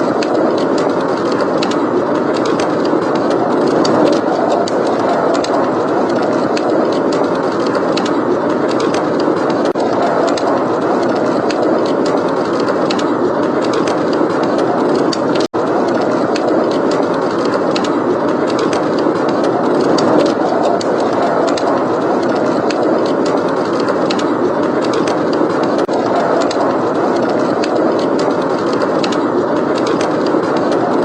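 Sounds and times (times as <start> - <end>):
heavy blizzard wind: 0.0 - 31.0
wood fire crackling: 0.0 - 31.0.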